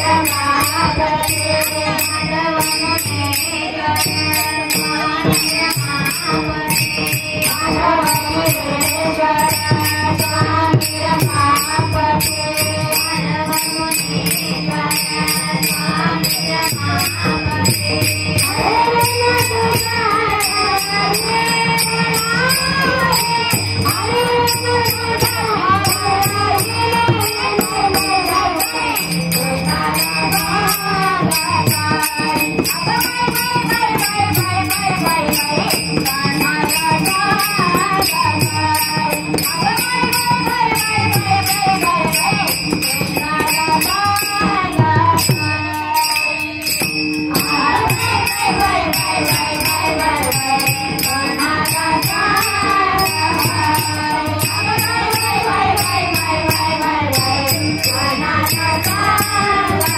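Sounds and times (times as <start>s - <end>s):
barrel drum played by hand: 0.0s - 59.9s
small hand cymbals clashing: 0.0s - 59.9s
woman singing devotional song: 0.0s - 59.9s.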